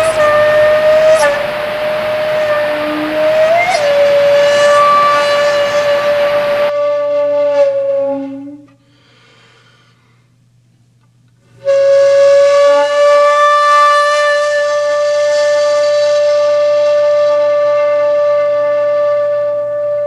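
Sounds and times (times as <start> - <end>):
flute-like held note: 0.0 - 9.0, 11.6 - 20.0.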